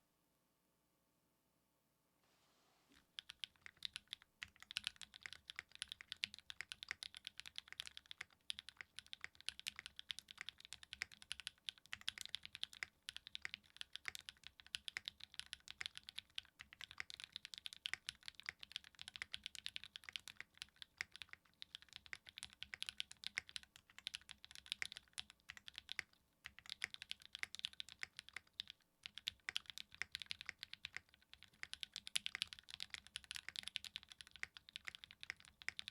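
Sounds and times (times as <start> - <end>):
fast mechanical keyboard typing: 3.1 - 35.9.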